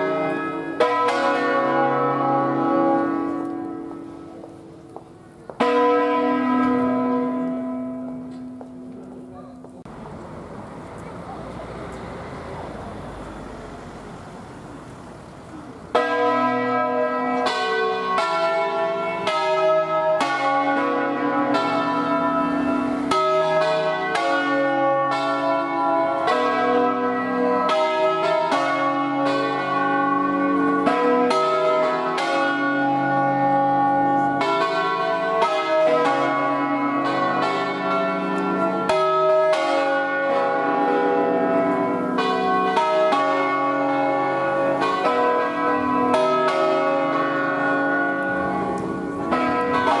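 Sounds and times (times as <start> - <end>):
church bells pealing: 0.0 - 14.8, 15.8 - 50.0.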